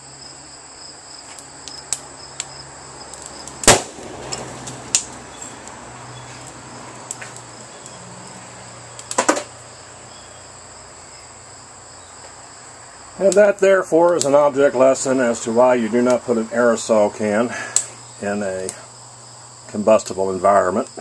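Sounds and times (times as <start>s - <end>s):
insects chirring: 0.0s - 21.0s
wood fire crackling and popping: 1.2s - 10.0s, 12.2s - 20.6s.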